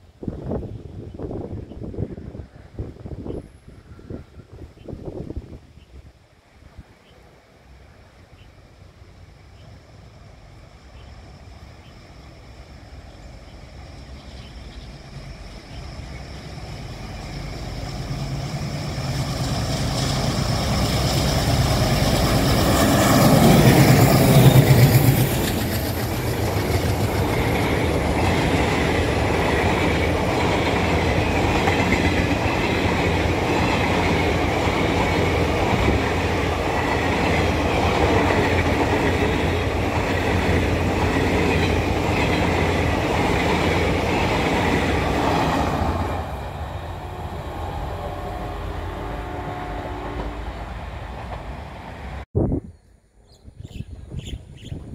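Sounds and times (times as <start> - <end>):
diesel locomotive engines: 0.0 - 52.3
train wheels rumbling on rail: 7.8 - 52.3.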